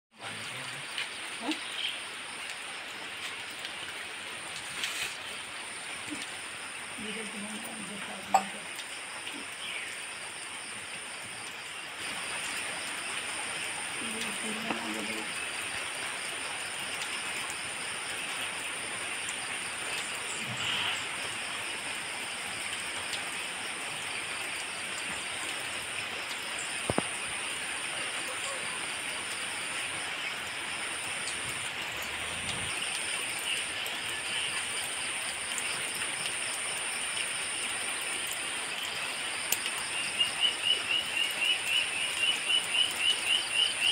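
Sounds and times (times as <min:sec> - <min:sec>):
rain hiss: 0:00.1 - 0:43.9.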